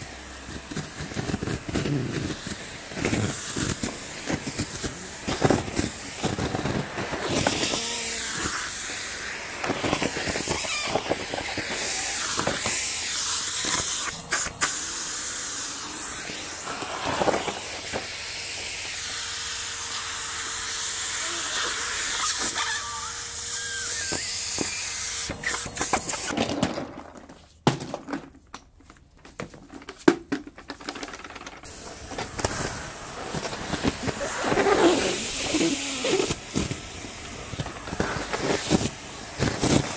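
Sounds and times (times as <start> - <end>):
leaves crackling up a hose: 0.0 - 26.3, 31.6 - 39.9
vacuum cleaner airflow hissing: 0.0 - 26.4, 31.6 - 39.9.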